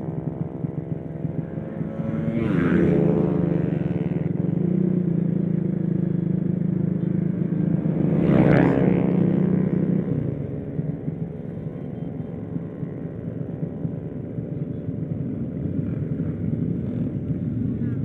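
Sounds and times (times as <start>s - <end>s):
small motorcycle engine running: 0.0s - 18.0s.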